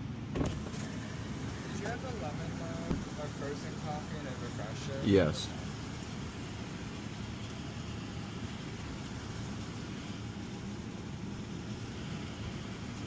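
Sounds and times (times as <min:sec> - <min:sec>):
car idling from inside cabin: 0:00.0 - 0:13.0.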